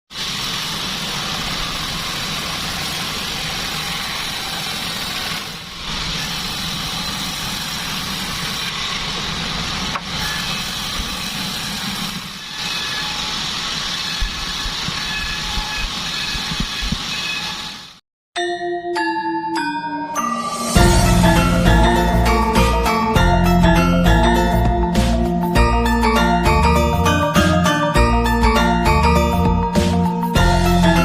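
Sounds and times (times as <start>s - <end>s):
band sawmill drone: 0.1s - 18.0s, 20.2s - 31.0s.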